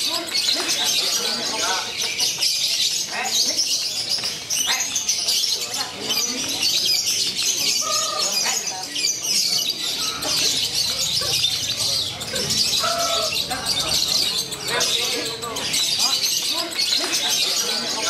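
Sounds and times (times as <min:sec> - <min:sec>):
lovebirds chattering and trilling: 0:00.0 - 0:18.0.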